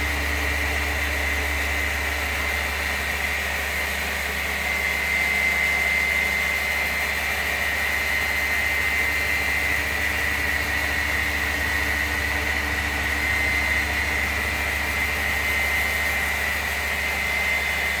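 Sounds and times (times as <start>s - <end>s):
electric polisher whining: 0.0s - 18.0s.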